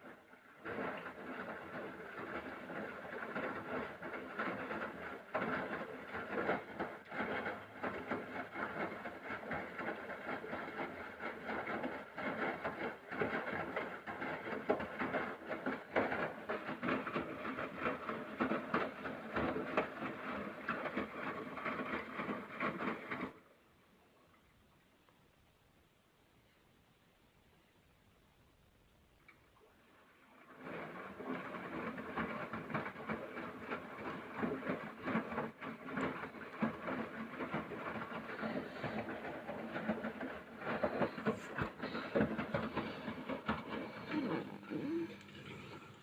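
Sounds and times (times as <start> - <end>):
washing machine drum churning: 0.0 - 23.5, 29.6 - 46.0.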